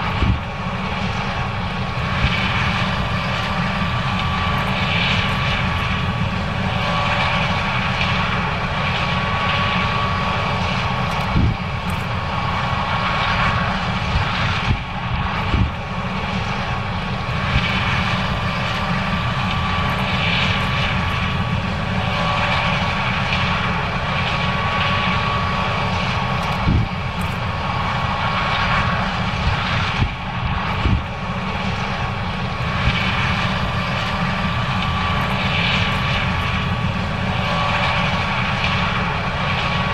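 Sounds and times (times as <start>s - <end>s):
combine harvester drone: 0.0s - 39.9s
steady whine: 0.0s - 39.9s.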